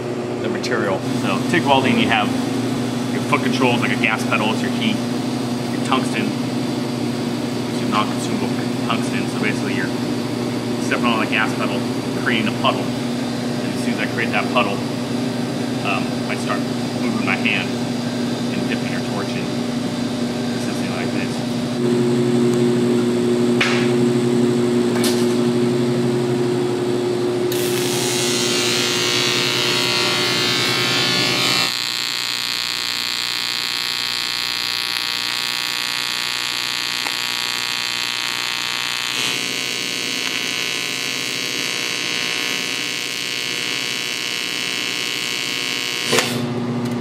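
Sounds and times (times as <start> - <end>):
welding arc buzzing: 1.0 - 46.6.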